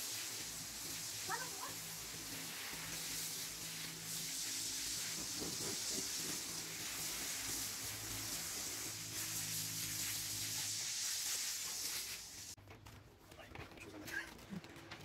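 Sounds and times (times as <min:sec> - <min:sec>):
pressure washer spraying water: 0:00.0 - 0:12.6.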